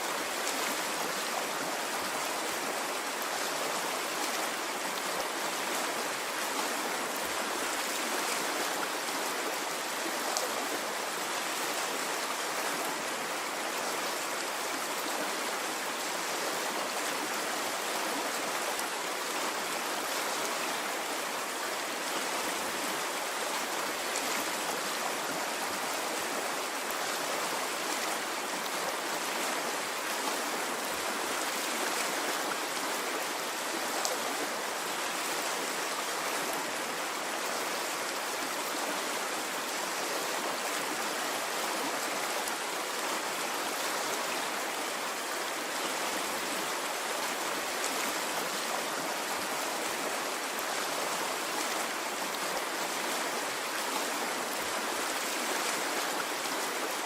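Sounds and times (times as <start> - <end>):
running water stream: 0.0 - 57.0.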